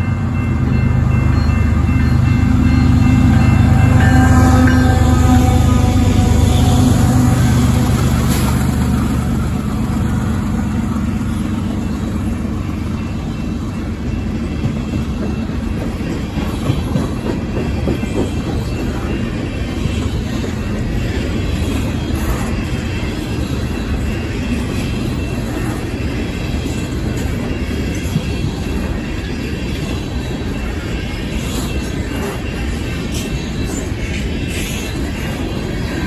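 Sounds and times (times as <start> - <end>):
freight cars rumbling on rails: 0.0 - 36.0.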